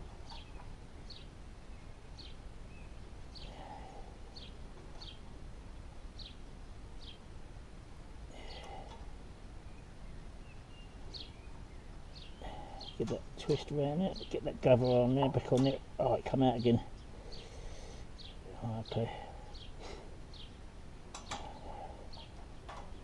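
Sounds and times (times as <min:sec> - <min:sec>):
low steady outdoor background: 0:00.0 - 0:23.0.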